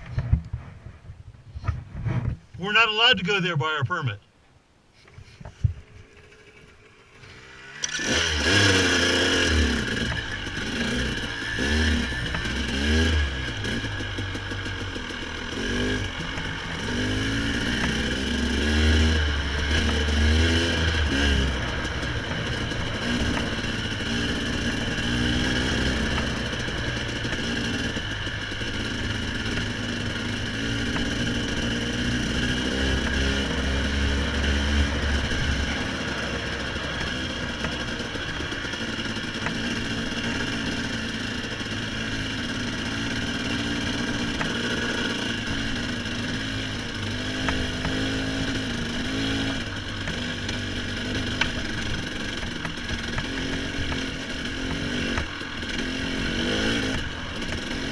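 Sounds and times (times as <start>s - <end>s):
dirt bike engine revving: 6.0s - 57.9s.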